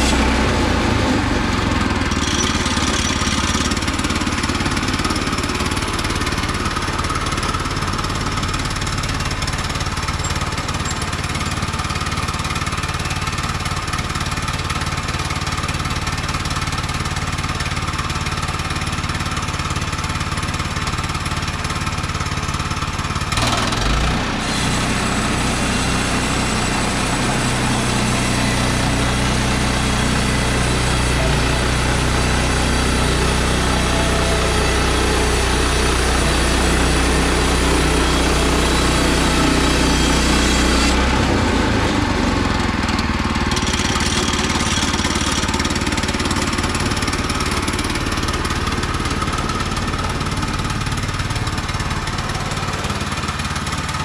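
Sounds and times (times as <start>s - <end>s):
saw cutting log: 0.0s - 17.0s, 18.7s - 54.0s
sawmill engine running: 0.0s - 54.0s.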